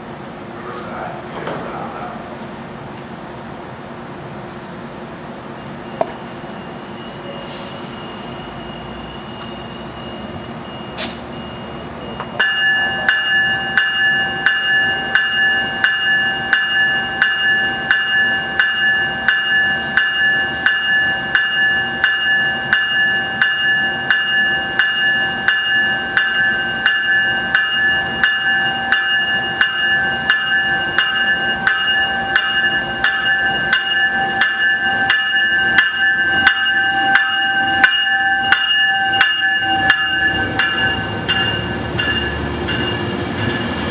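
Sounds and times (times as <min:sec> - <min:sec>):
train warning bell ringing: 0:00.5 - 0:03.2, 0:04.2 - 0:43.9.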